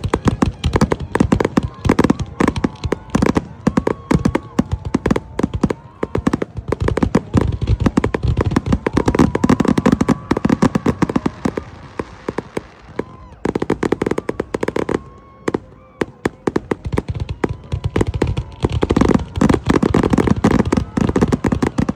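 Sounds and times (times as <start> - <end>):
fireworks cracking and banging: 0.0 - 21.9.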